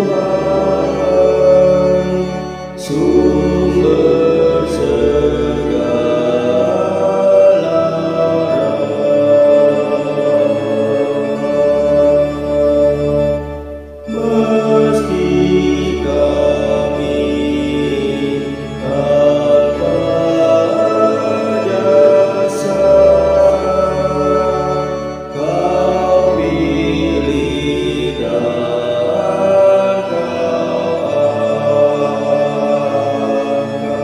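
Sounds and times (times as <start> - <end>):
choir singing a hymn: 0.0 - 34.0.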